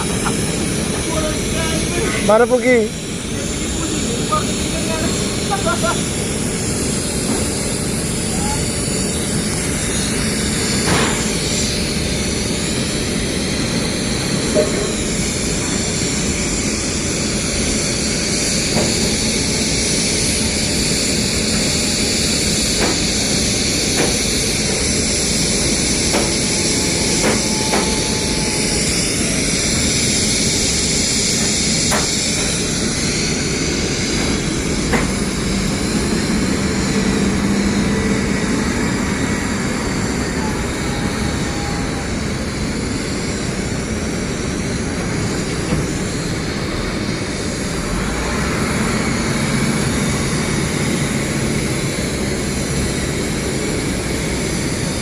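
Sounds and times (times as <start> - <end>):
welding machine drone with hiss: 0.0 - 55.0.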